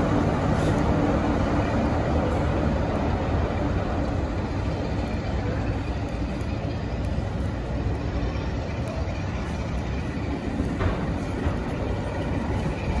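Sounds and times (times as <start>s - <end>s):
diesel locomotive engine running: 0.0s - 13.0s.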